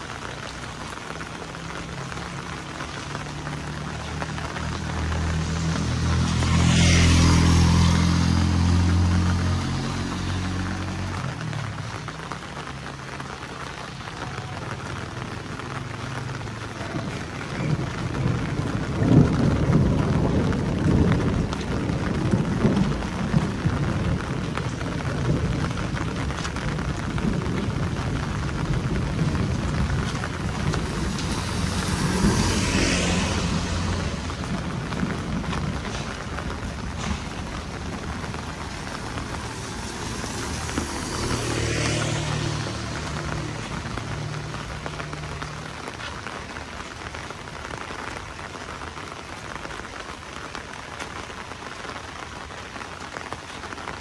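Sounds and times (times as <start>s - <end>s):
thunder rumbling: 0.0s - 51.7s
heavy rain falling: 0.0s - 54.0s.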